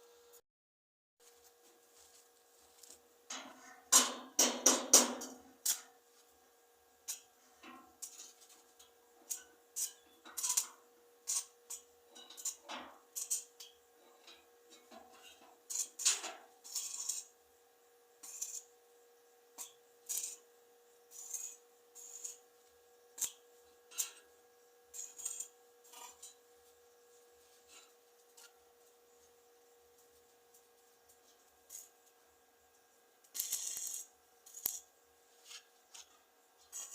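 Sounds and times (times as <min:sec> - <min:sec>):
faint steady hum: 0:01.2 - 0:36.9.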